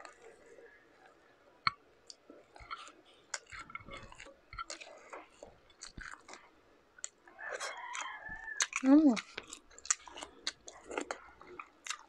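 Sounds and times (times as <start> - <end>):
person chewing with mouth smacks: 0.0 - 1.1, 1.7 - 12.0.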